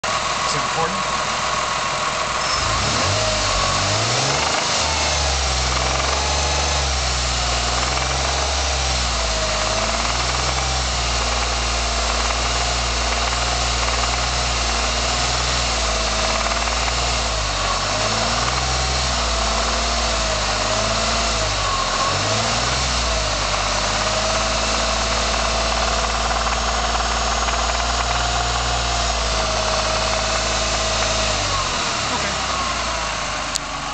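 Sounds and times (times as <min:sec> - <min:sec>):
car engine idling with ticking: 0:00.0 - 0:33.9.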